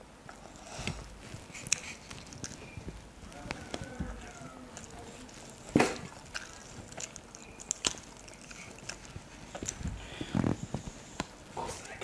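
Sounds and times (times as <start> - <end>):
fingers squelching rice: 0.3 - 12.0
wet chewing and lip smacks: 0.3 - 12.0.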